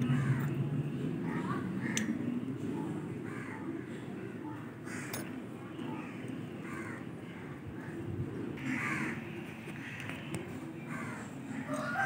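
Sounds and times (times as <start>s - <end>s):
birds calling: 0.0s - 12.0s
low background noise: 0.0s - 12.0s.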